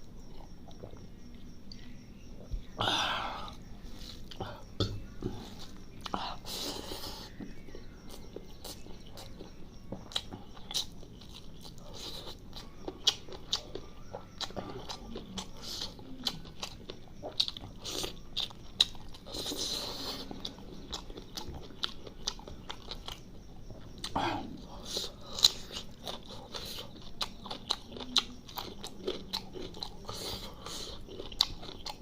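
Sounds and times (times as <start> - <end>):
wet chewing: 3.4 - 32.0.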